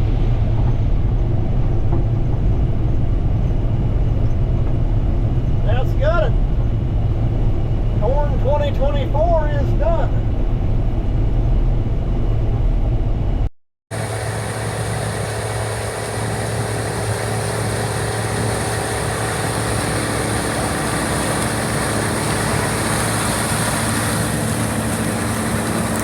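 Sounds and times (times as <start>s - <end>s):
farm machinery engine running: 0.0s - 26.0s.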